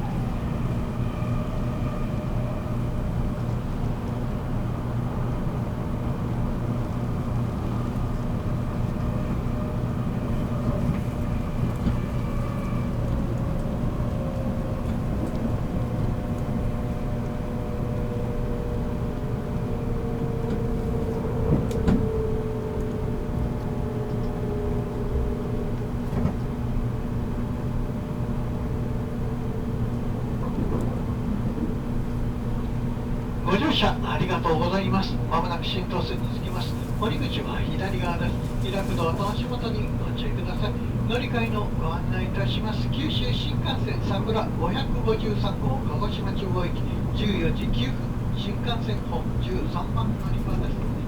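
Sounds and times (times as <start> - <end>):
train running rumble: 0.0 - 51.0.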